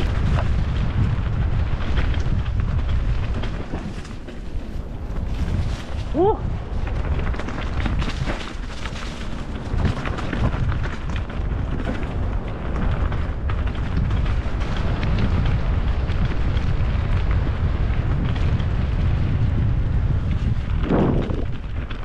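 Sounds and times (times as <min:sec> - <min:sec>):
bike tyres crunching leaves: 0:00.0 - 0:22.0
wind buffeting microphone: 0:00.0 - 0:22.0.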